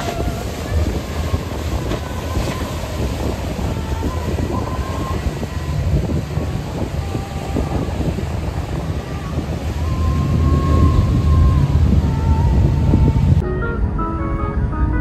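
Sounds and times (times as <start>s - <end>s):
faint engine whine: 0.0s - 15.0s
low rumble of motor yachts: 0.0s - 15.0s
wind buffeting microphone: 0.0s - 15.0s.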